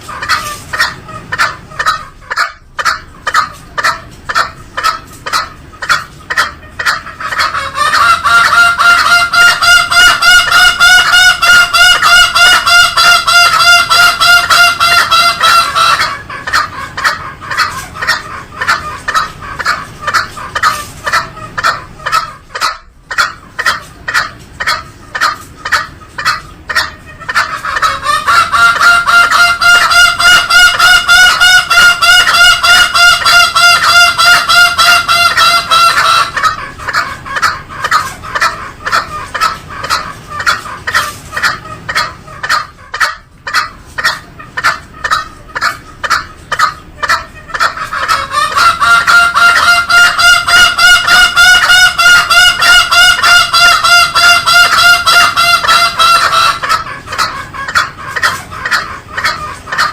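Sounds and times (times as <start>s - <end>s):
junglefowl calling in rapid pulses: 0.0s - 59.9s.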